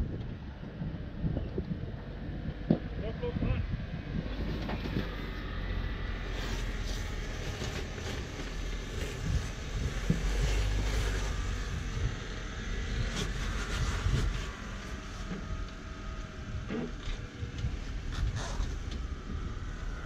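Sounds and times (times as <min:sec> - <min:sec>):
engine running at low revs: 0:00.0 - 0:20.0.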